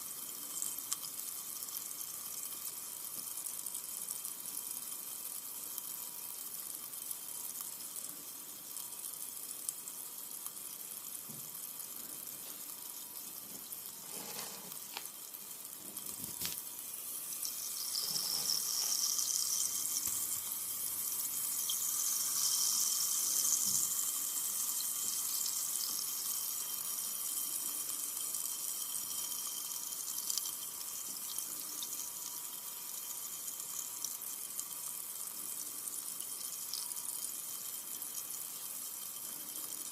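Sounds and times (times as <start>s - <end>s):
soda fizzing: 0.0s - 39.9s.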